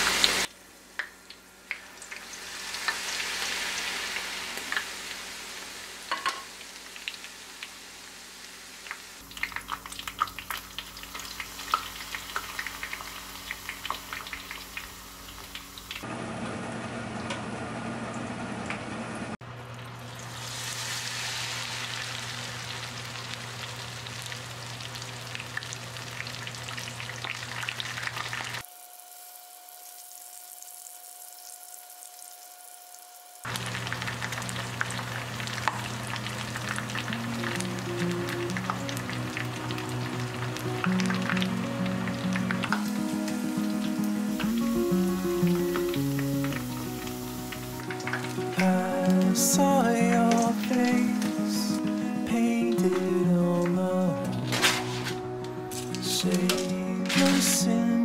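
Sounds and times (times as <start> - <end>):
battered food deep-frying in oil: 0.0 - 57.7.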